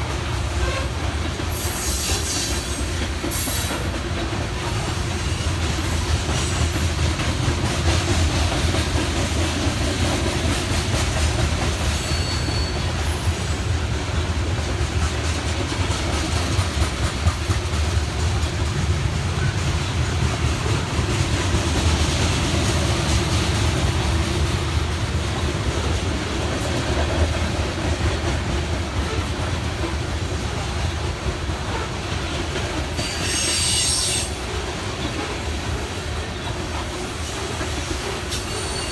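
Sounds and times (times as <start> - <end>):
wheels clacking over rail joints: 0.0 - 38.9
wheels rumbling on rail: 0.0 - 38.9.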